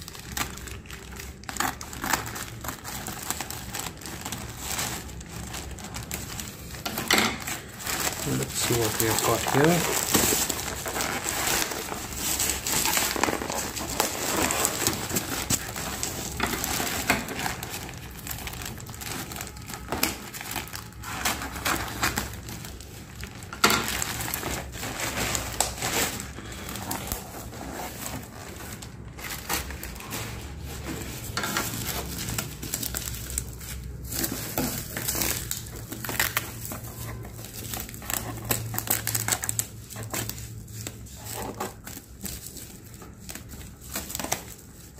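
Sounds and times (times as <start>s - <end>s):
bubble wrap crinkling: 0.0s - 44.9s.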